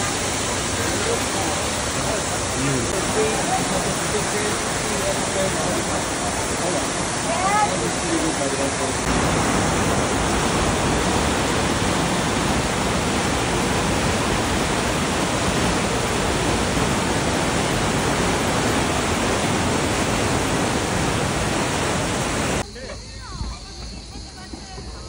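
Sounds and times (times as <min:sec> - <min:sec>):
water rushing over rocks: 0:00.0 - 0:22.6.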